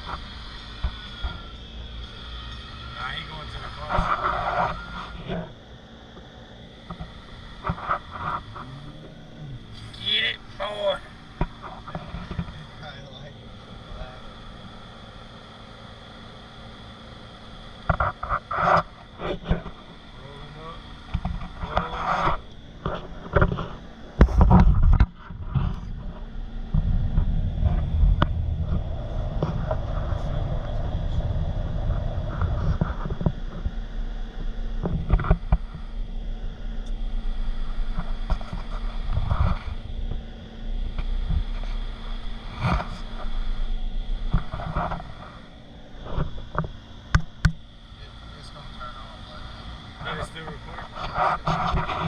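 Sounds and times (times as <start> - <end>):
vehicle engine and road noise: 0.0 - 52.0.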